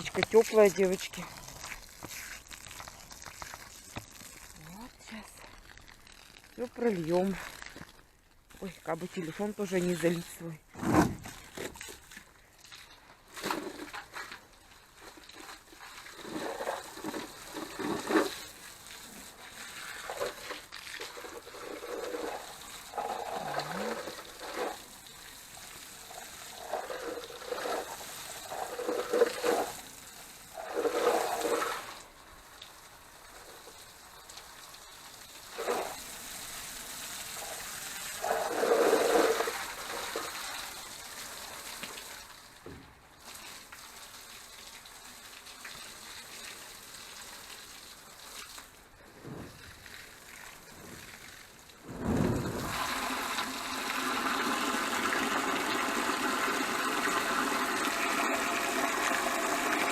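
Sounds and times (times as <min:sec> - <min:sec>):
water from hose splashing on plants: 0:00.0 - 0:10.6, 0:11.3 - 0:59.9.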